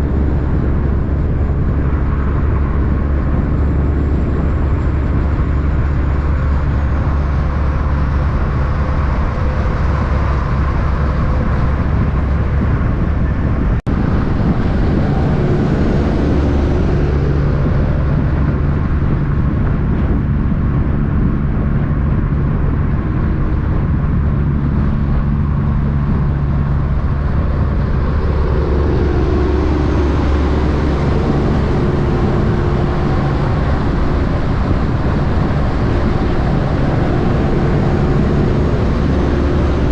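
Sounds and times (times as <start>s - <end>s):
heavy diesel trucks passing: 0.0s - 39.9s.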